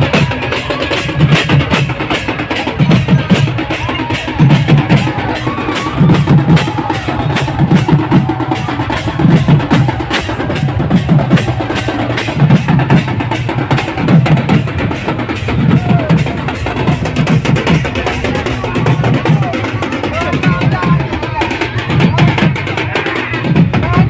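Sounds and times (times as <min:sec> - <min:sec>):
deep drum beats: 0:00.0 - 0:24.0.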